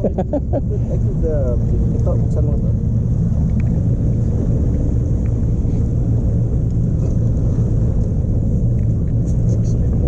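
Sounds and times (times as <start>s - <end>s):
motorboat engine rumbling: 0.0s - 10.0s.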